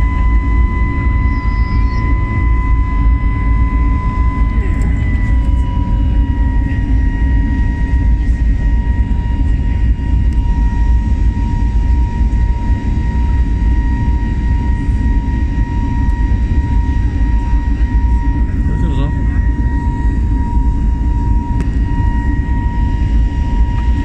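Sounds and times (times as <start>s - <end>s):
deep drone of engines and air: 0.0s - 24.0s
steady whine: 0.0s - 24.0s.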